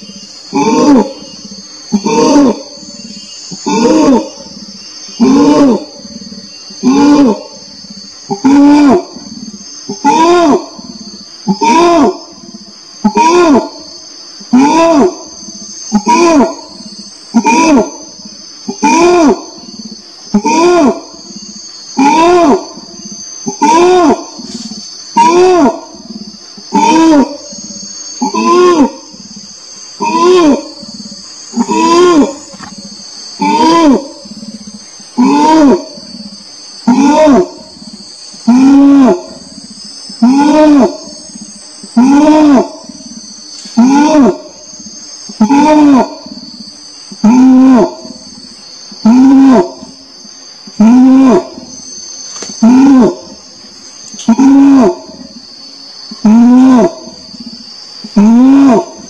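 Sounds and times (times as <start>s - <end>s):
high insect buzz: 0.0s - 59.0s
orangutan calling: 0.0s - 59.0s.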